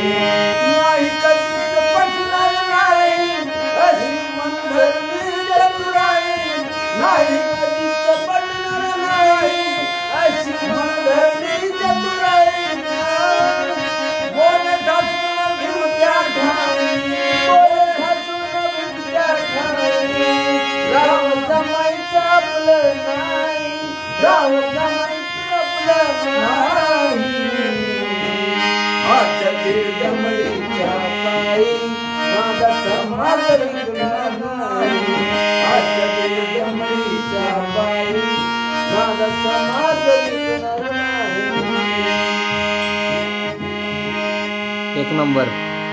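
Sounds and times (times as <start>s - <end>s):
man singing: 0.0s - 45.8s
harmonium: 0.0s - 45.9s.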